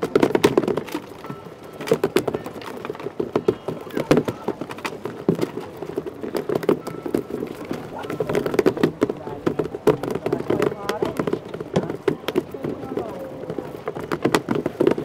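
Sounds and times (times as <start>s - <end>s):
footsteps on wooden planks: 0.0s - 15.0s.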